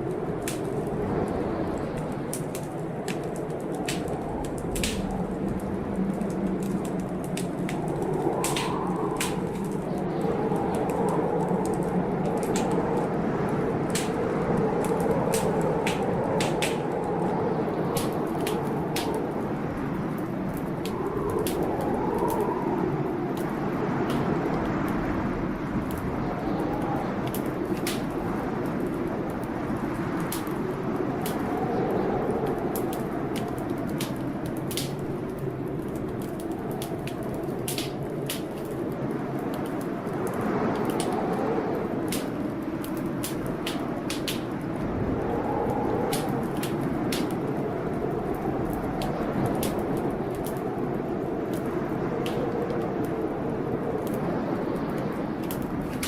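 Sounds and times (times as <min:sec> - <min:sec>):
low rush of storm: 0:00.0 - 0:56.0
wood fire crackling and popping: 0:00.0 - 0:56.0.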